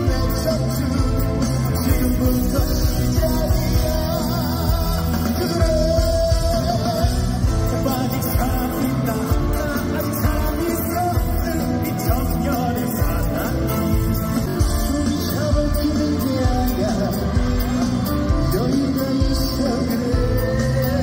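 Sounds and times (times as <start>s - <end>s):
band accompaniment with steady beat: 0.0s - 21.0s
person singing with vibrato: 0.0s - 21.0s.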